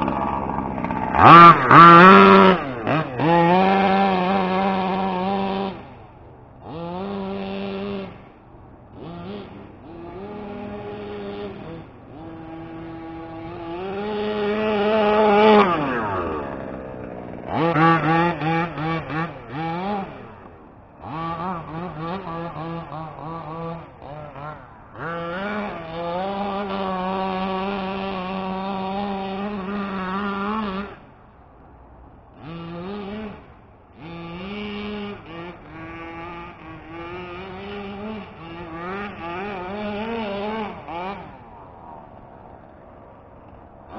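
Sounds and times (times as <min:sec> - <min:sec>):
engine throttle blips: 0:00.0 - 0:43.9
small two-stroke engine revving: 0:00.0 - 0:43.9.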